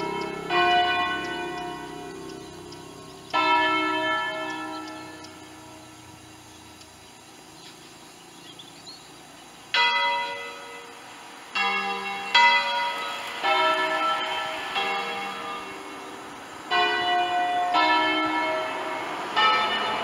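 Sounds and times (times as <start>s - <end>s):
church bells ringing: 0.0s - 6.2s, 9.7s - 20.0s.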